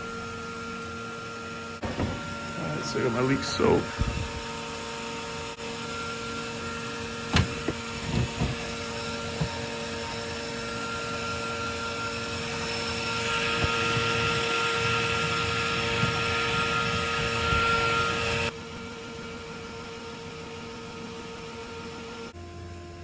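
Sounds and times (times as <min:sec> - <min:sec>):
water heater humming: 0:00.0 - 0:22.4.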